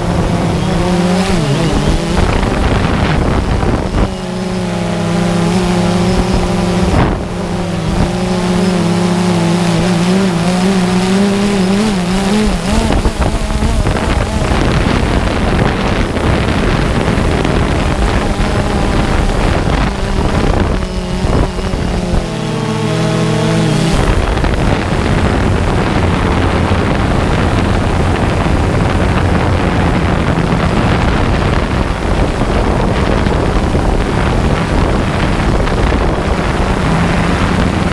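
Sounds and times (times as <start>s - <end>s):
drone propellers whining: 0.0s - 37.9s
rushing propeller wash and wind: 0.0s - 37.9s.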